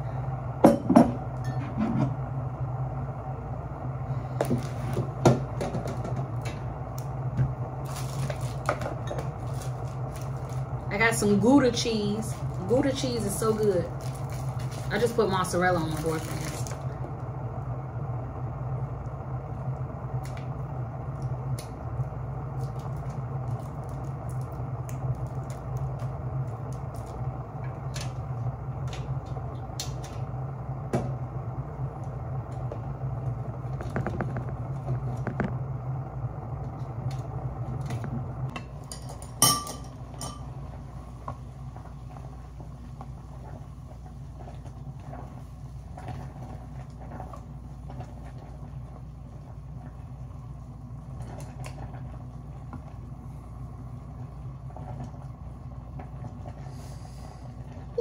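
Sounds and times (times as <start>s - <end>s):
water boiling in a pot: 0.0s - 58.0s.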